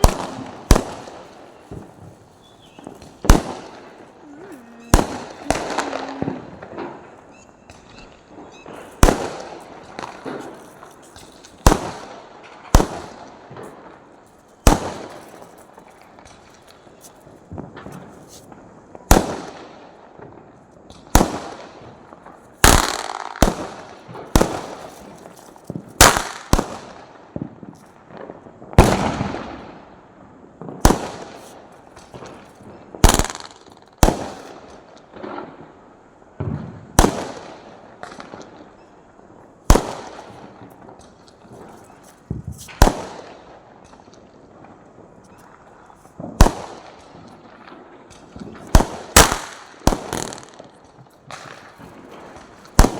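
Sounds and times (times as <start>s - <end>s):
firecrackers banging: 0.0s - 19.5s, 20.9s - 27.0s, 28.3s - 35.8s, 39.7s - 52.9s.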